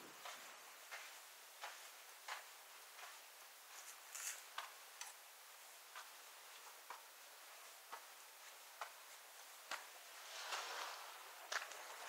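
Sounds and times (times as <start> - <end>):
faint footsteps: 0.0 - 12.0
soft steady hiss: 0.0 - 12.0.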